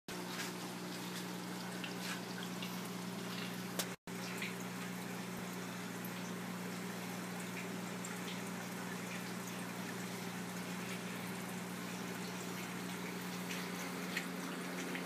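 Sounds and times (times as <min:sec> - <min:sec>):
water drips: 0:00.1 - 0:15.0
water trickling and splashing: 0:00.1 - 0:15.0.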